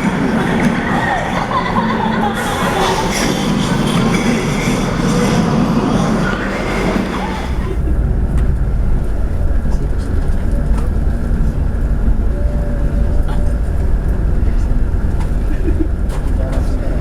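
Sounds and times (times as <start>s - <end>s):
bus engine low rumble: 0.0s - 17.0s.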